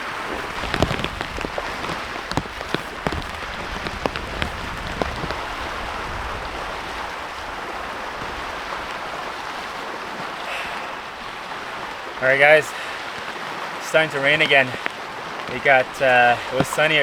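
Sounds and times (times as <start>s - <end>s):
rain falling steadily: 0.0s - 17.0s
raindrops tapping: 0.0s - 17.0s.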